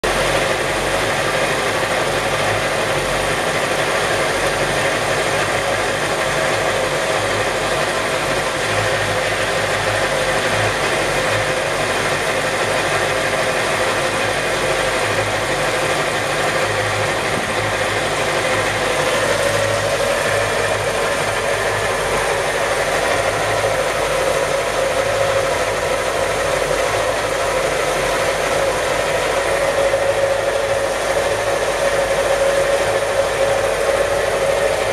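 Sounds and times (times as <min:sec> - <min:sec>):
boat engine idling: 0:00.0 - 0:34.9.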